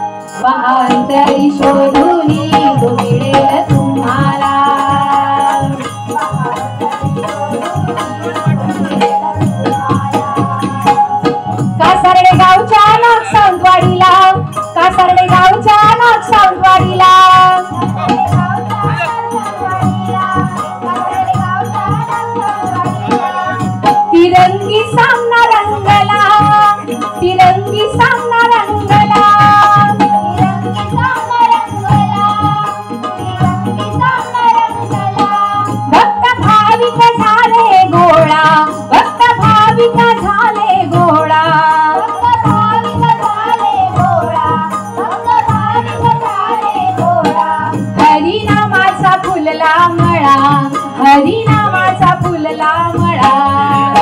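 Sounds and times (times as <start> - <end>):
barrel drum beat: 0.0 - 54.0
jingling rattling percussion: 0.0 - 54.0
woman singing: 0.0 - 54.0.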